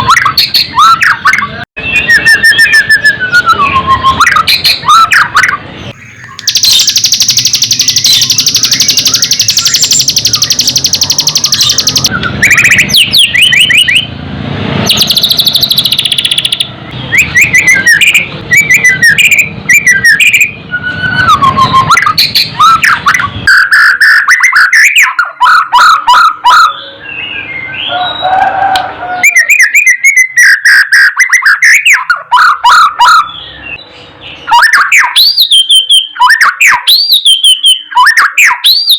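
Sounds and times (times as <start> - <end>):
bird singing varied song: 0.0 - 14.1, 14.8 - 38.9.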